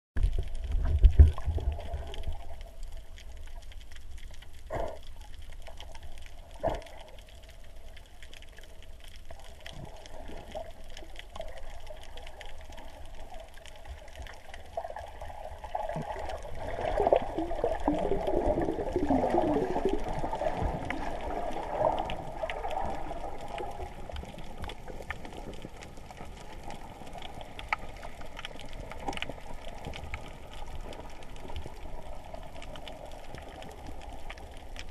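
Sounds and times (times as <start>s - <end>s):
bubbling gurgle: 0.2s - 34.9s
muffled underwater rumble: 0.2s - 34.9s.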